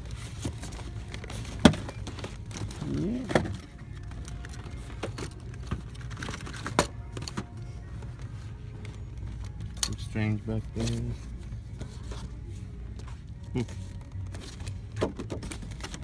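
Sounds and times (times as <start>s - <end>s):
toy packages clicking on shelves: 0.0s - 16.0s.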